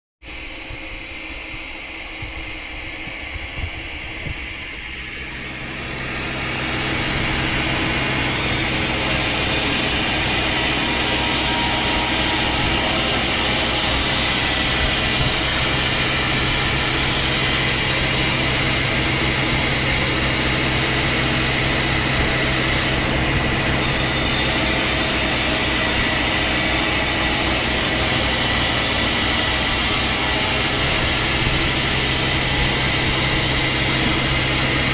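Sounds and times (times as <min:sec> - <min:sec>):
chainsaw cutting timber: 0:05.3 - 0:34.9.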